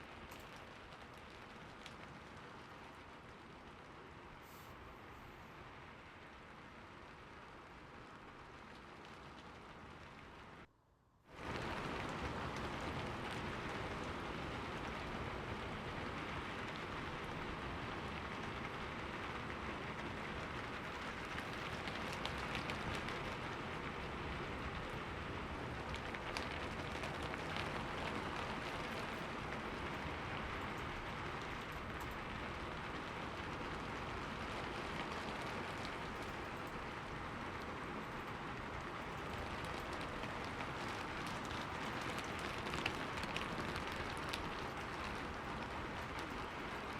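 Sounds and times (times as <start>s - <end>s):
sharp raindrop sounds: 0.0s - 4.9s, 5.6s - 10.7s, 11.4s - 46.9s
steady rain falling: 0.0s - 10.7s, 11.3s - 46.9s.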